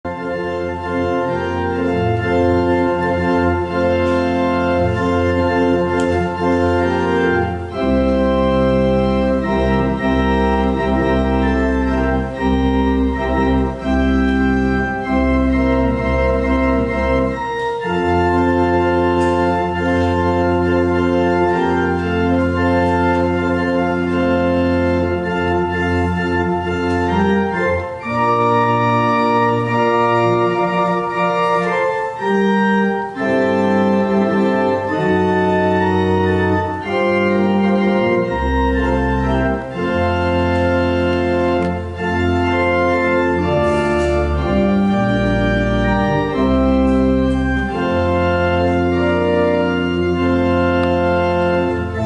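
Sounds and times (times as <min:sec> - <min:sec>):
church organ chords: 0:00.0 - 0:52.0.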